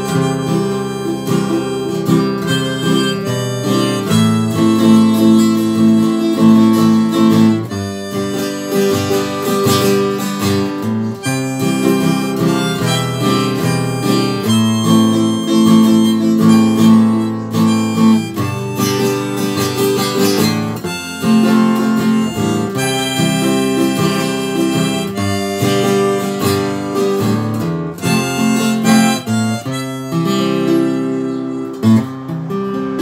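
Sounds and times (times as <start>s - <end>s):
acoustic guitar: 0.0s - 33.0s
harmonica melody: 0.0s - 33.0s.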